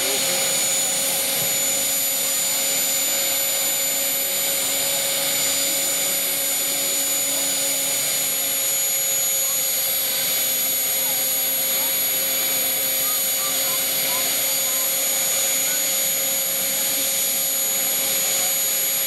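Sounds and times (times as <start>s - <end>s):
helicopter turbine whine: 0.0s - 19.0s.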